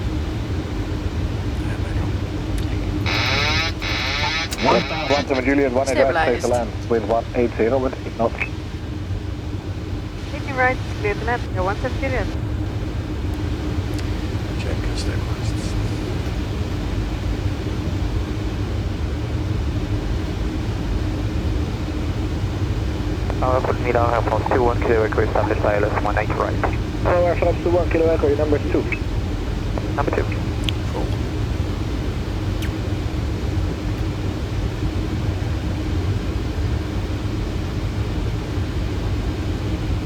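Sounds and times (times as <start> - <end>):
aircraft engine noise: 0.0 - 40.0
faint steady hum: 0.0 - 40.0.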